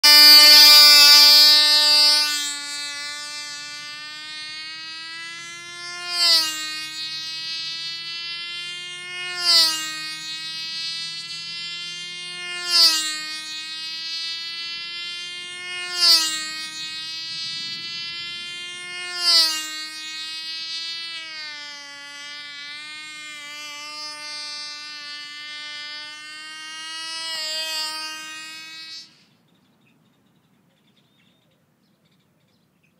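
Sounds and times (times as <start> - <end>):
model airplane engine buzzing: 0.0 - 29.6.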